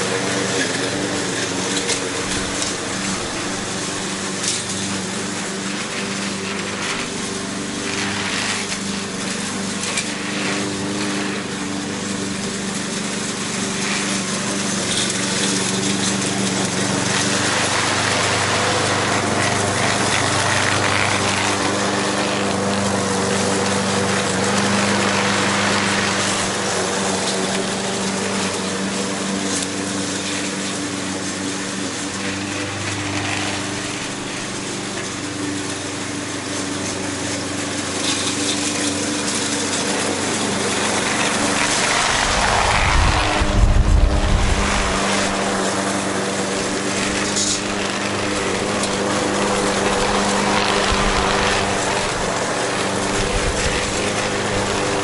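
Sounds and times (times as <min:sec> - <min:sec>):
lawn mower running: 0:00.0 - 0:55.0.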